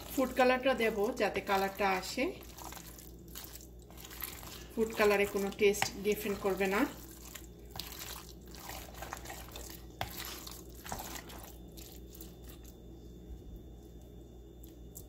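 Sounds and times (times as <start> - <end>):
wet squelching of hand mixing: 0.0 - 15.0.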